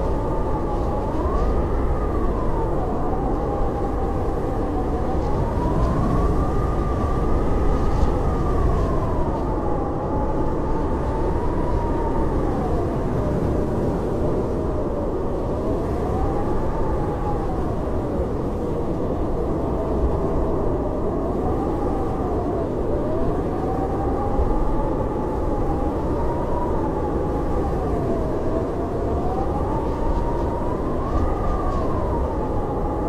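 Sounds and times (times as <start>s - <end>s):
howling blizzard wind: 0.0s - 33.0s.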